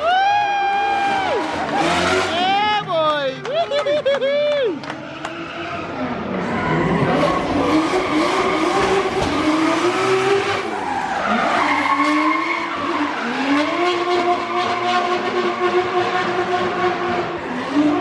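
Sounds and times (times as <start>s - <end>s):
tyres skidding and squealing: 0.6s - 18.0s
car engine revving: 0.8s - 3.6s, 4.8s - 18.0s.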